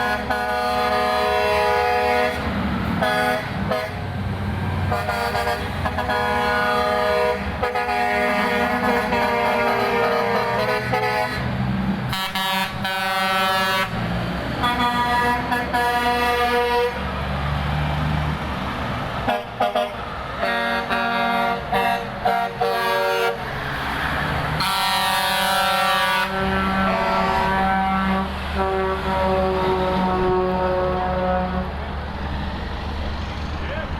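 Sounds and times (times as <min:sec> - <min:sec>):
truck air horn blasts: 0:00.0 - 0:04.1, 0:04.9 - 0:14.0, 0:14.6 - 0:17.1, 0:19.2 - 0:23.5, 0:24.6 - 0:31.8
truck engines rumbling: 0:00.0 - 0:33.9.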